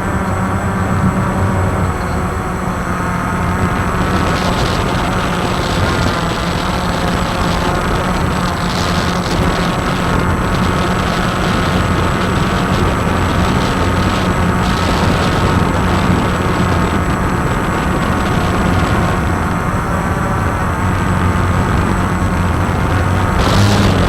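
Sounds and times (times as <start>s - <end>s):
drone propellers whirring: 0.0s - 24.0s.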